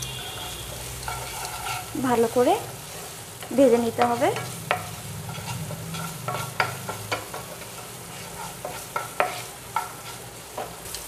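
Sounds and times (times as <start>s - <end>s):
onions sizzling in a pan: 0.0s - 11.0s
spatula scraping and tapping pan: 0.0s - 11.0s.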